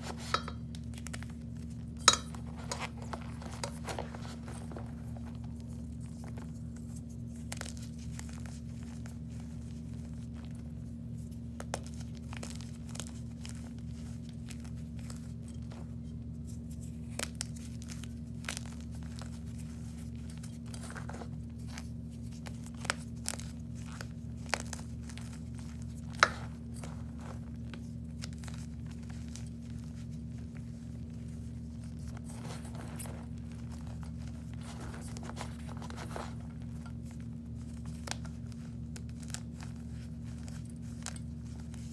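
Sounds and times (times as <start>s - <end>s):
crinkling handling sounds: 0.0s - 41.9s
steady low hum: 0.0s - 41.9s.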